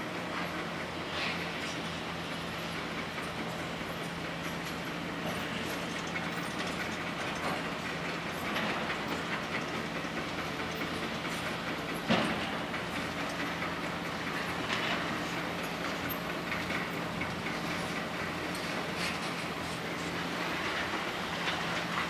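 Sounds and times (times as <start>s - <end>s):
demolition crusher in rubble: 0.0s - 22.0s
excavator diesel engine running: 0.0s - 22.0s.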